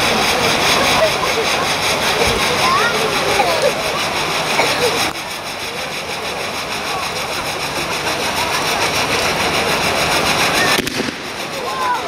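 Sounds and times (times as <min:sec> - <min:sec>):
firework wheel hissing: 0:00.0 - 0:12.0.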